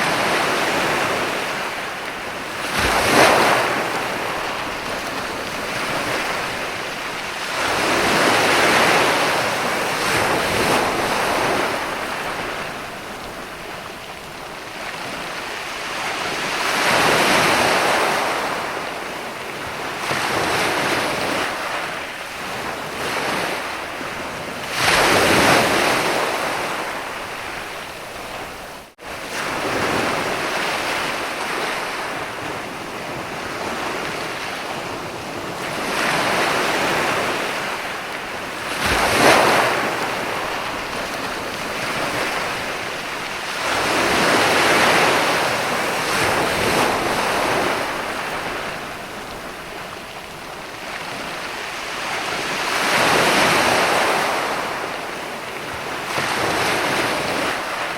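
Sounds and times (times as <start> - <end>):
ocean waves breaking on beach: 0.0 - 57.9.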